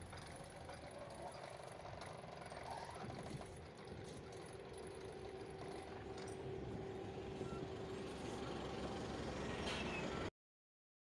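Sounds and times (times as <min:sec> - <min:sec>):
car engine and tyres: 0:00.0 - 0:10.3.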